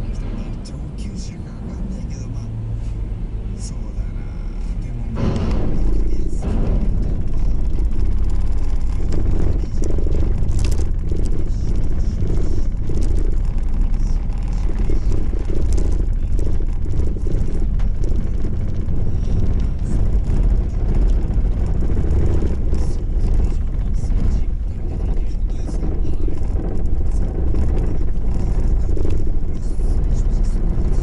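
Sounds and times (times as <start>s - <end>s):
car cabin rumble while driving: 0.0s - 31.0s.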